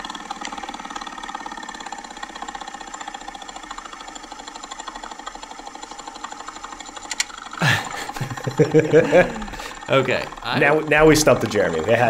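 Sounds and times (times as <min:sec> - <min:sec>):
blower motor rattling: 0:00.0 - 0:12.0.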